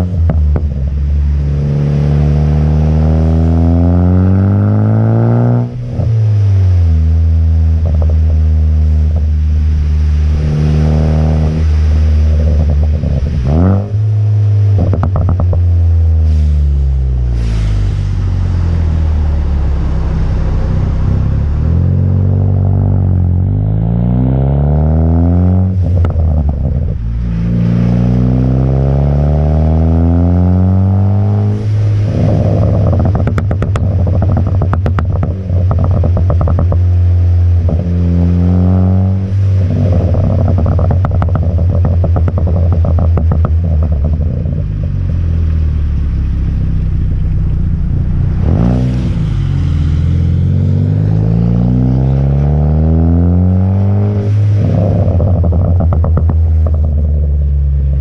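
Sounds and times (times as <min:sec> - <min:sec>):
car engine accelerating: 0:00.0 - 0:58.0
exhaust crackles and pops: 0:00.0 - 0:58.0.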